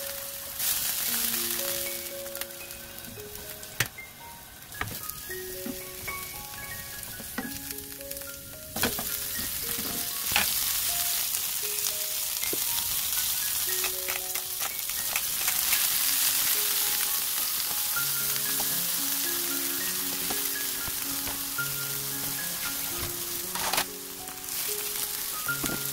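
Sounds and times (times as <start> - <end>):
mushrooms sizzling in oil: 0.0 - 25.9
soft background music: 0.0 - 25.9.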